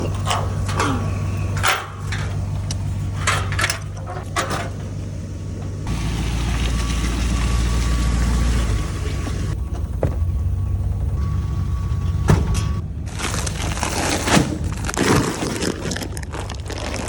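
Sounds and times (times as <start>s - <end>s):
engine low rumble: 0.0s - 17.0s.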